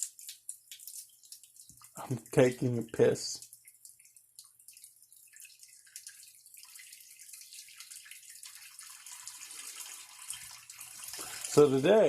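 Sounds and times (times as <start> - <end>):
person urinating into toilet: 0.0 - 12.0.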